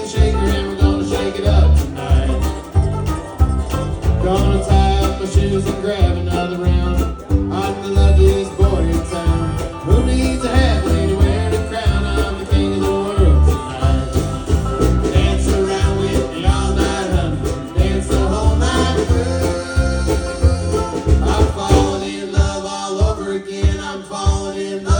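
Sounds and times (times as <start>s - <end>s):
upbeat country song: 0.0s - 24.9s.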